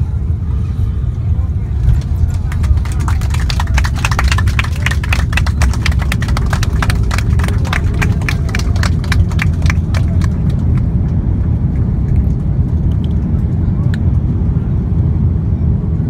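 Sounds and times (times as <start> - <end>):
aircraft cabin deep rumble: 0.0 - 16.0.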